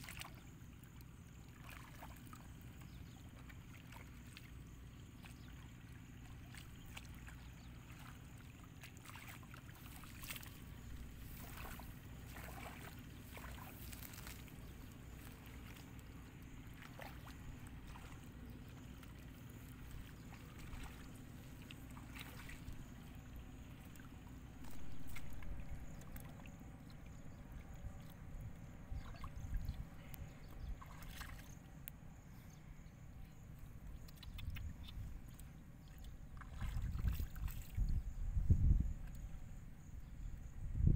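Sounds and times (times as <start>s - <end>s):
muddy water splashing: 0.0s - 32.0s, 33.4s - 38.1s.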